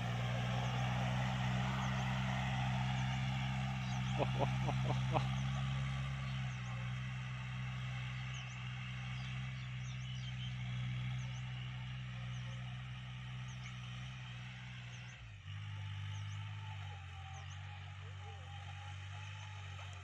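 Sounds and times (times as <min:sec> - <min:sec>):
rotary tiller in dry soil: 0:00.0 - 0:20.0
tractor diesel engine running: 0:00.0 - 0:20.0.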